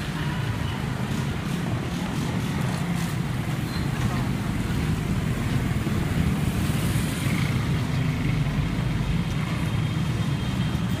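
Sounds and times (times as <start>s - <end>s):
motorbikes and cars passing: 0.0s - 11.0s.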